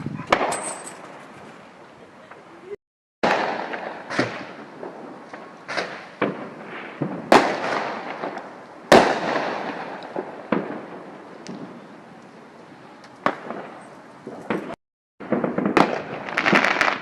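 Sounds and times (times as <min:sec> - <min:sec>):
fireworks banging and cracking: 0:00.3 - 0:01.2, 0:03.2 - 0:17.0.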